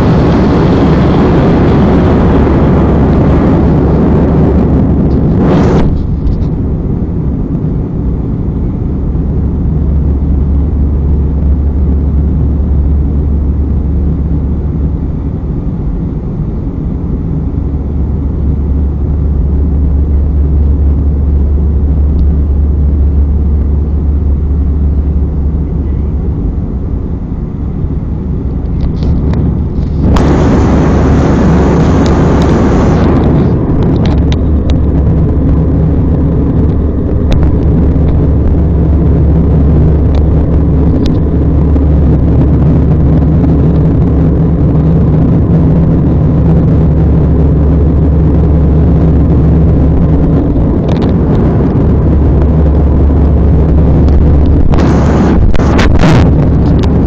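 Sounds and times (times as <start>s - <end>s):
airplane engine and airflow drone: 0.0s - 57.0s.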